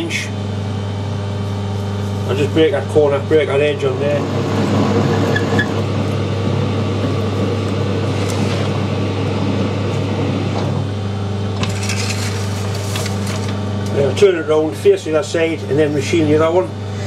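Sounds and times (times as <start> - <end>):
metal lathe humming: 0.3 - 17.0.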